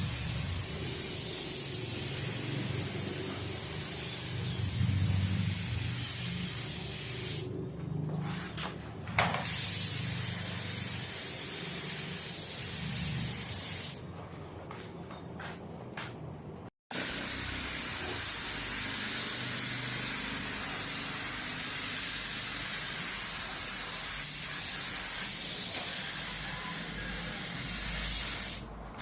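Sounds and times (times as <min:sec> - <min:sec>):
paint spray gun hissing: 0:00.0 - 0:07.5, 0:09.4 - 0:14.0, 0:16.9 - 0:28.7.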